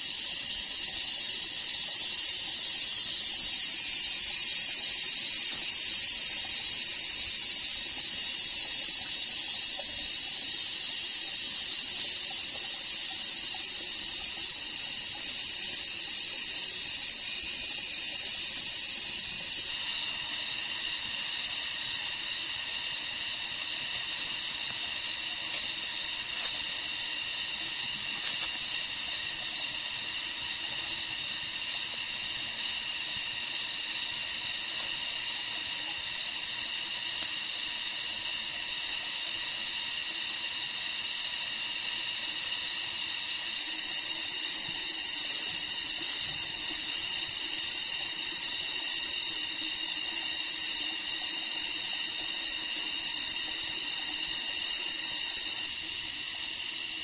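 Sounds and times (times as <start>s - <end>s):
insects chorus shrill hiss: 0.0s - 50.7s.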